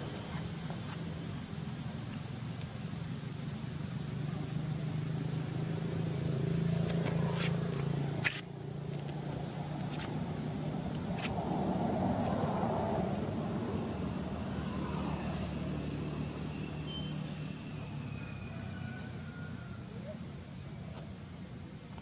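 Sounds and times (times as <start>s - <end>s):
low engine-like hum: 0.0s - 22.0s.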